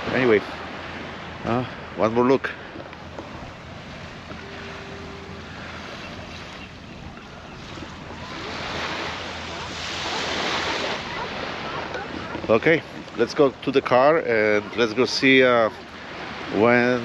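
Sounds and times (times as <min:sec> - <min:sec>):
ocean surf on sandy beach: 0:00.0 - 0:17.0.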